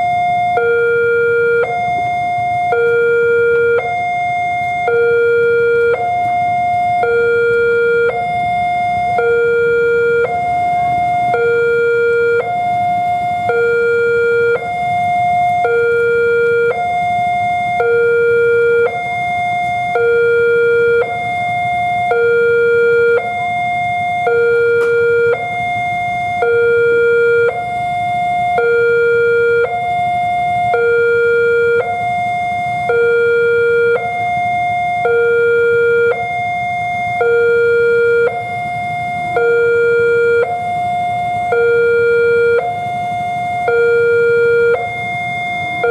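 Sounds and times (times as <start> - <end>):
two-tone level crossing alarm: 0.0 - 45.9.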